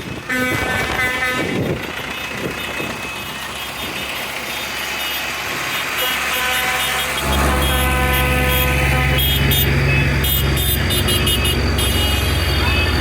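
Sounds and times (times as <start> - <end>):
tractor engines driving past: 0.0 - 13.0.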